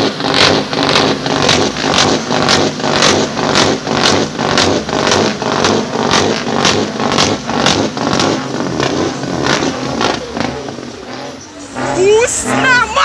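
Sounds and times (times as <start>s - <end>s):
truck engine running with pulses: 0.0s - 13.0s.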